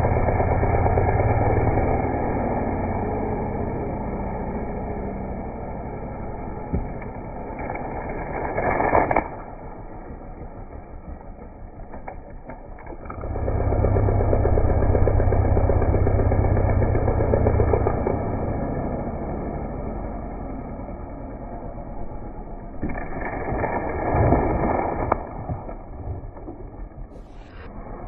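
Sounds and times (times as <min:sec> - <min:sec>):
two-stroke saw engine running: 0:00.0 - 0:28.0.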